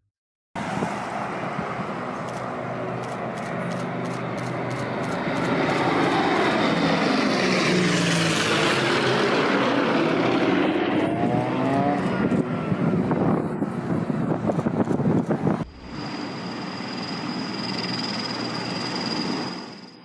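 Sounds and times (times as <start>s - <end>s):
propeller airplane flying past: 0.6s - 19.7s.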